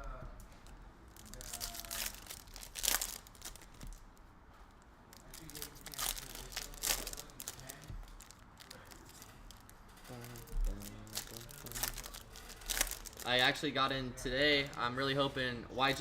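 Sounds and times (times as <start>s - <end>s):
wrappers crinkling and tearing: 0.6s - 13.6s, 14.5s - 15.2s.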